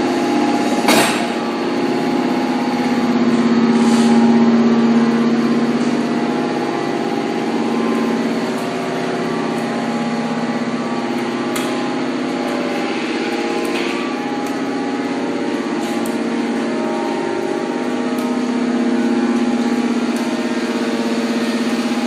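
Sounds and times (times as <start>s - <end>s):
hydraulic power unit humming: 0.0s - 22.0s.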